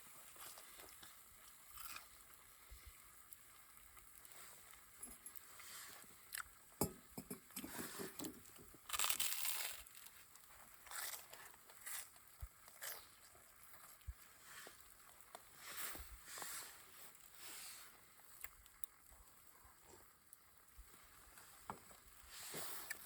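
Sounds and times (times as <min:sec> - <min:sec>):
rustling and crinkling: 0:00.0 - 0:06.5, 0:07.1 - 0:20.2, 0:20.8 - 0:23.0.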